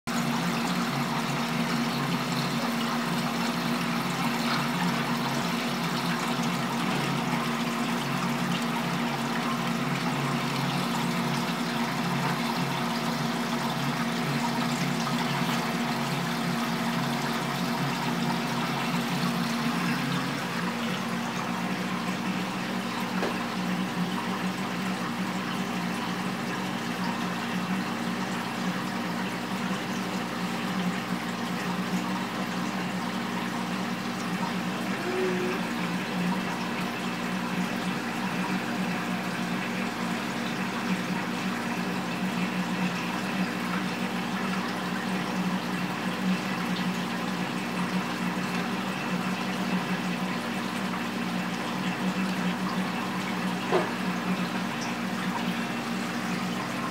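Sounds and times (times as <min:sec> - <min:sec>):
running water rushing: 0:00.1 - 0:56.9.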